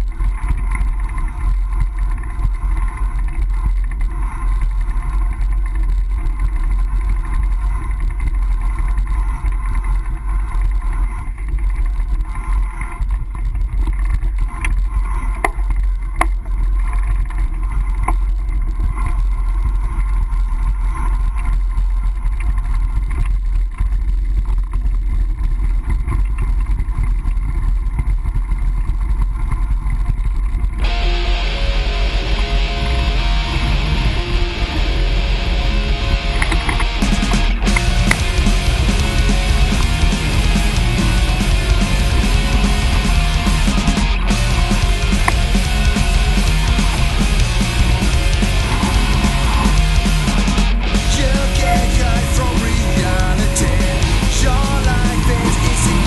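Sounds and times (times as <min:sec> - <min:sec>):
sharp clicks: 0:00.0 - 0:56.0.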